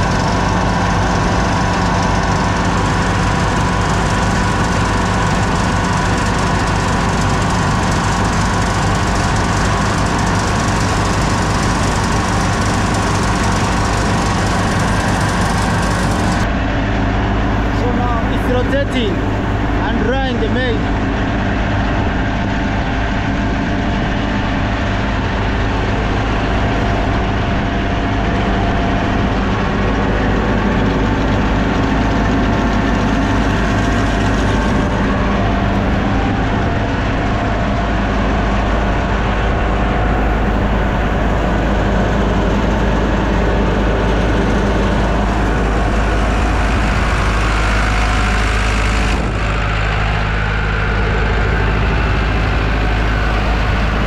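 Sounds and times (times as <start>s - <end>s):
grain dryer humming: 0.0s - 54.0s.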